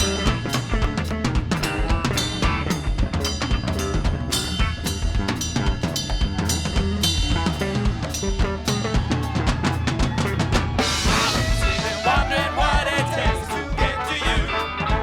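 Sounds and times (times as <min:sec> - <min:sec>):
drum kit groove: 0:00.0 - 0:15.0
live band playing: 0:00.0 - 0:15.0.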